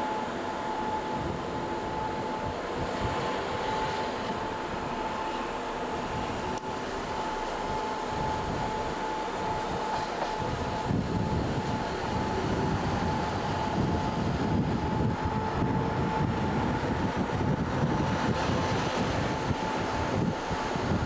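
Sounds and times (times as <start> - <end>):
thin steady whine: 0.0 - 21.0
train wheels rumbling on rails: 0.0 - 21.0.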